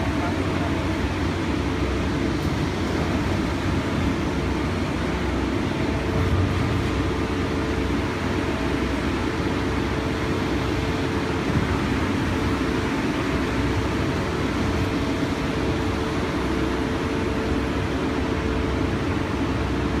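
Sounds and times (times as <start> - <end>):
concrete pump engine drone: 0.0 - 20.0
faint steady whine: 0.0 - 20.0.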